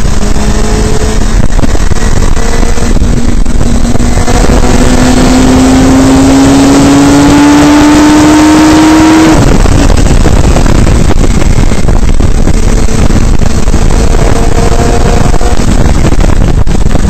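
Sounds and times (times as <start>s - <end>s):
race car engine pulling: 0.0s - 17.0s
wind buffeting microphone: 0.0s - 17.0s.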